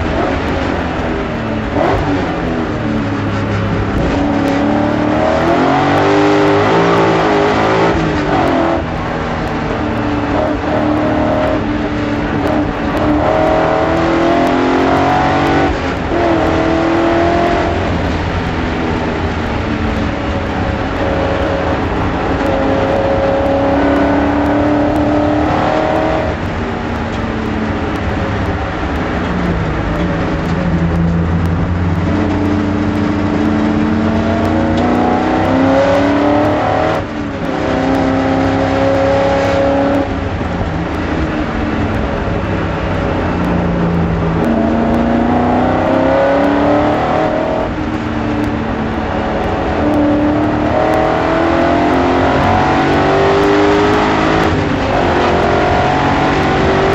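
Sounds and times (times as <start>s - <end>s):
race car engine revving: 0.0s - 56.9s.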